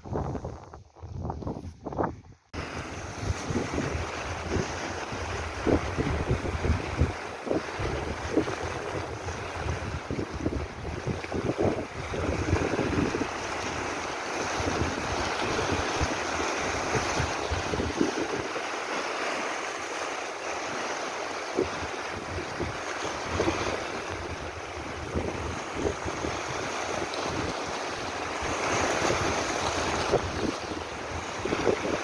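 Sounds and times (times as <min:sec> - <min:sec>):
wind buffeting microphone: 0:00.0 - 0:18.8, 0:20.6 - 0:32.0
waves splashing over rocks: 0:02.6 - 0:32.0.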